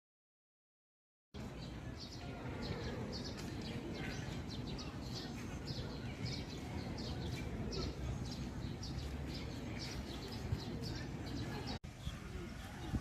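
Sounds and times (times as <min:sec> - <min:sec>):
small birds chirping: 0:01.4 - 0:13.0.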